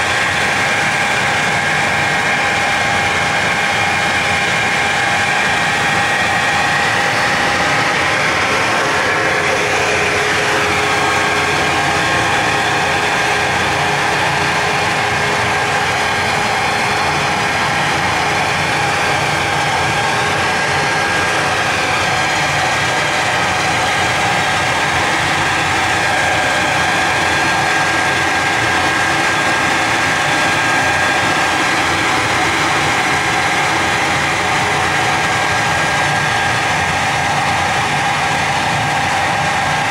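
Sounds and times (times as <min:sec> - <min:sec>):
constant mechanical tones: 0:00.0 - 0:39.9
machine running: 0:00.0 - 0:39.9.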